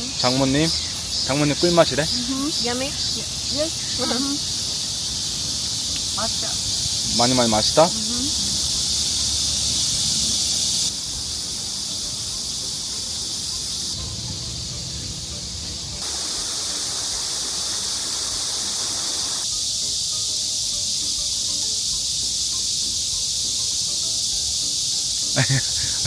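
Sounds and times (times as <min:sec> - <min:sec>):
shrill insect chorus: 0:00.0 - 0:26.0.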